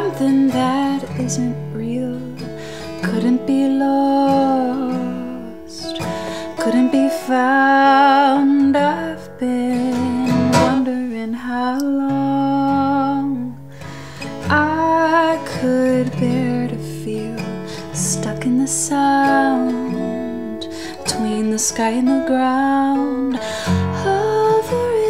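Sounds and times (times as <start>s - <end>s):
acoustic guitar: 0.0s - 25.0s
woman singing: 0.0s - 25.0s.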